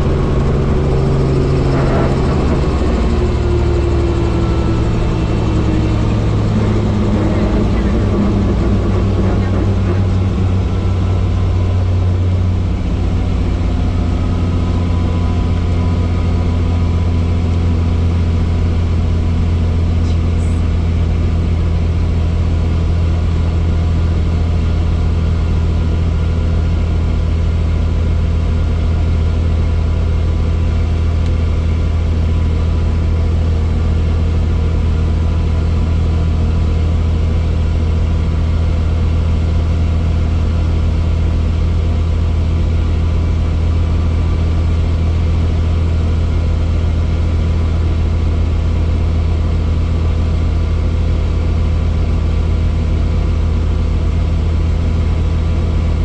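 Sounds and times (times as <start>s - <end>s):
helicopter drone from inside cabin: 0.0s - 56.0s.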